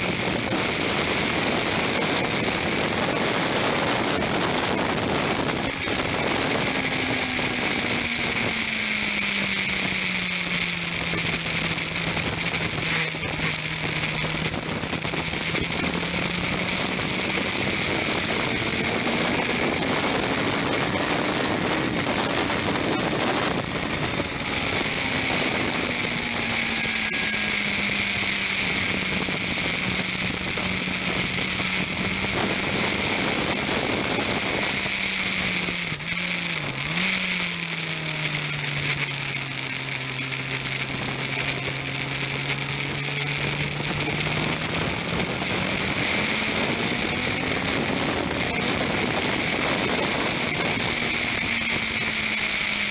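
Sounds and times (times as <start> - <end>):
motorcycle engine: 0.0 - 52.9.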